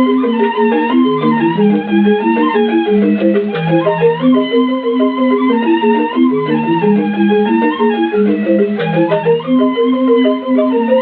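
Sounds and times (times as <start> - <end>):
electronic keyboard organ melody: 0.0 - 11.0.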